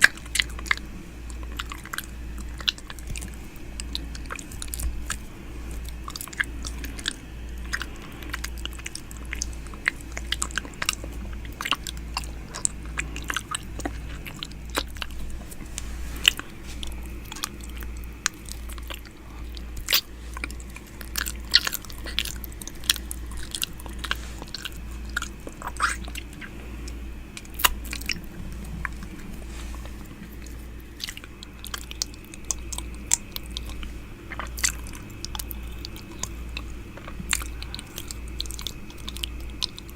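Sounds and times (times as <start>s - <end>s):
low steady hum: 0.0s - 39.9s
wet mouth clicks and smacks: 0.1s - 39.9s.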